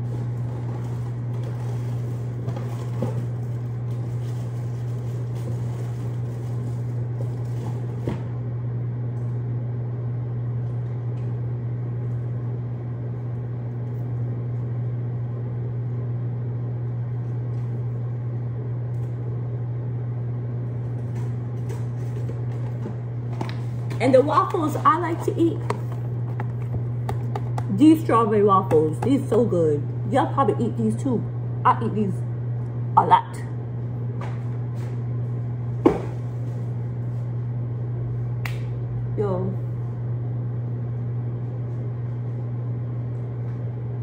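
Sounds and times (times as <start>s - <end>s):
microwave oven humming: 0.0s - 44.0s.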